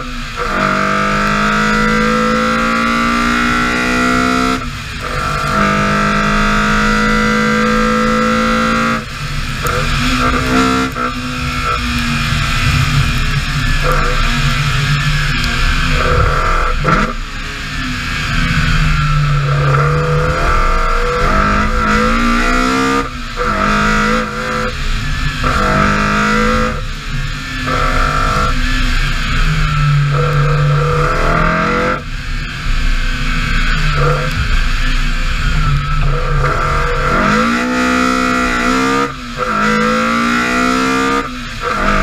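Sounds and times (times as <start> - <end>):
car engine accelerating hard: 0.0 - 42.0.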